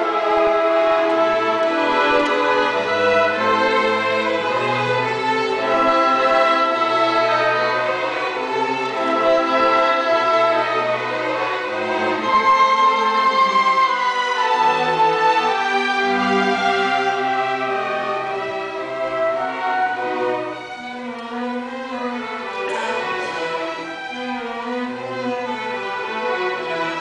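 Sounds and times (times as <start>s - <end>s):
orchestra playing strings: 0.0s - 27.0s
violins leading: 0.0s - 27.0s.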